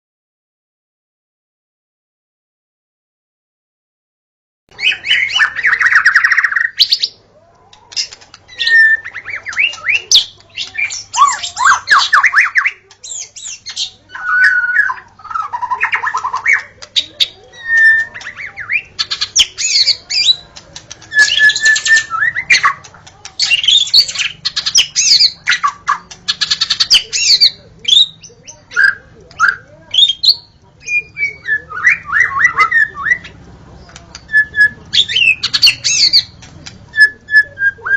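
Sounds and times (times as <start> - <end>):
bird singing: 4.7 - 37.9.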